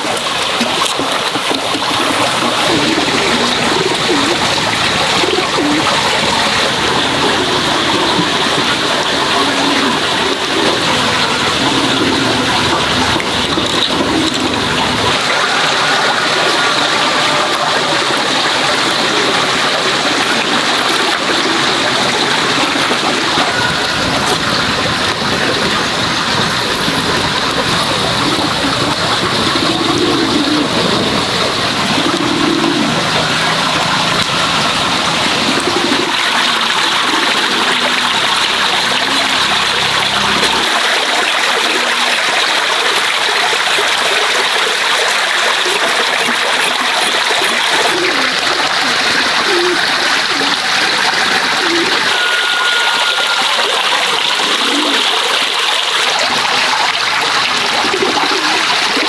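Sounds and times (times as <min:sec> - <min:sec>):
shallow stream rushing: 0:00.0 - 0:59.0
water splashing into plastic basin: 0:00.0 - 0:59.0.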